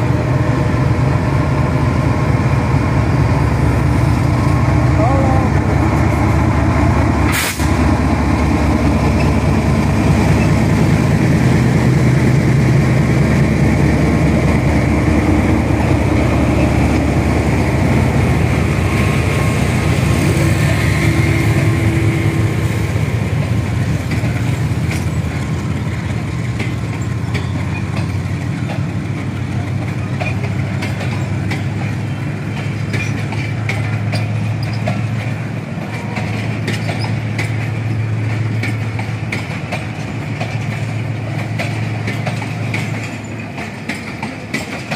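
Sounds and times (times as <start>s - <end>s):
diesel locomotive engine: 0.0s - 44.9s
train wheels clicking over rail joints: 5.8s - 44.9s.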